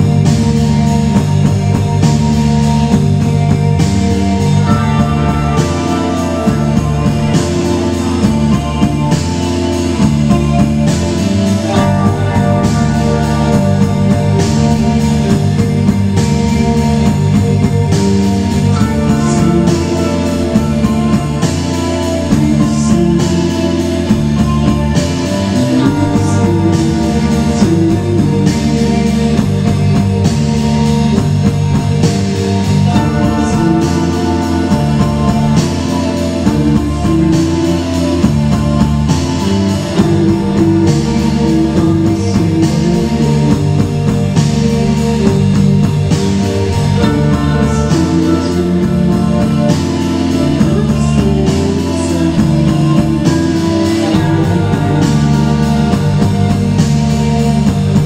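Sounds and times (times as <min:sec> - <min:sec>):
cymbal beat: 0:00.0 - 0:58.0
rock band playing: 0:00.0 - 0:58.0.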